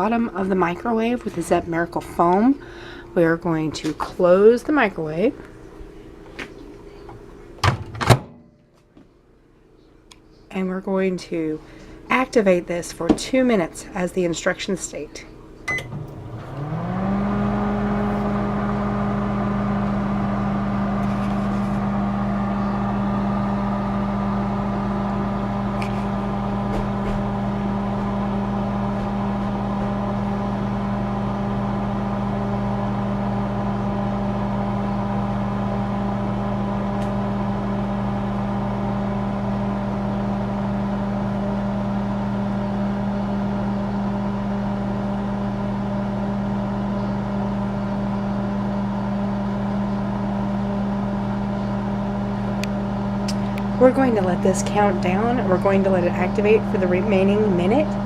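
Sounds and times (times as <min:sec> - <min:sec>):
microwave oven humming: 0:00.0 - 0:58.0.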